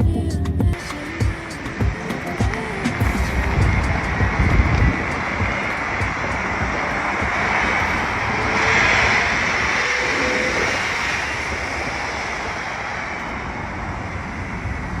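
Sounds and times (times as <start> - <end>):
car going by: 0.8 - 15.0.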